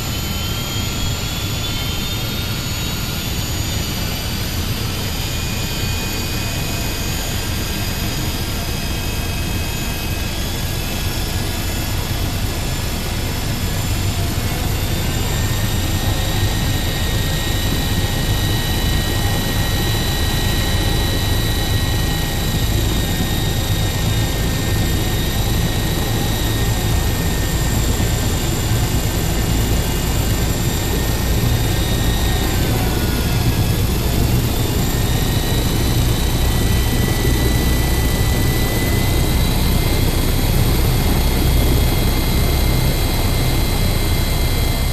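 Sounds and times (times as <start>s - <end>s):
rc helicopter motor whine: 0.0s - 44.9s.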